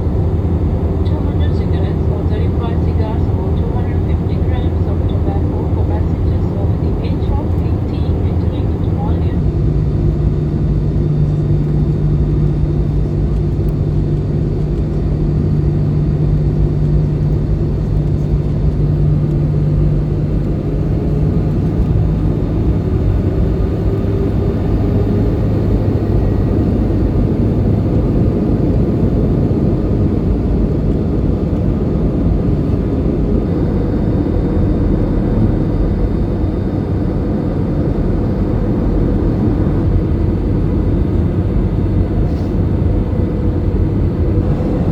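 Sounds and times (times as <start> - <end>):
airliner cabin engine and air noise: 0.0 - 44.9
low steady hum: 0.0 - 44.9.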